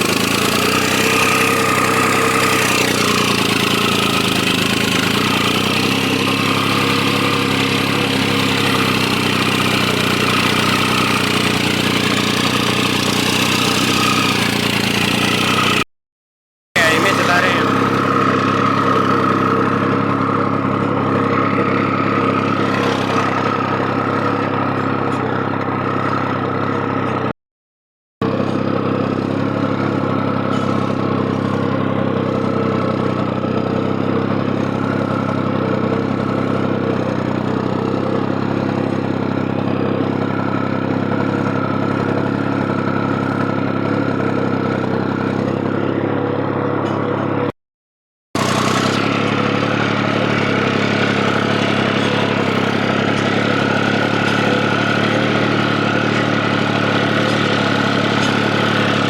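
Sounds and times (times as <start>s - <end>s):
tractor diesel engine running: 0.0s - 15.9s, 16.8s - 27.3s, 28.2s - 47.5s, 48.4s - 59.0s.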